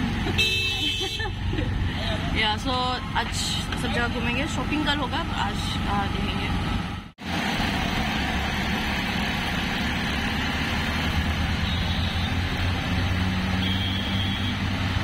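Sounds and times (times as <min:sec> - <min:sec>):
auto-rickshaw engine running: 0:00.0 - 0:15.0
road and wind noise: 0:00.0 - 0:15.0.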